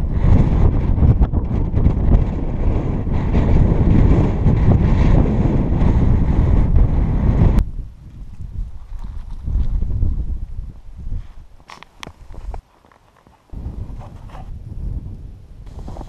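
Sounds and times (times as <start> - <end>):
wind buffeting microphone: 0.0 - 12.6, 13.5 - 16.0.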